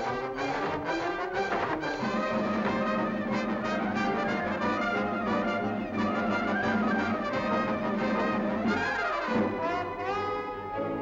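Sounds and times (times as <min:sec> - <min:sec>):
brass orchestral cartoon music: 0:00.0 - 0:11.0.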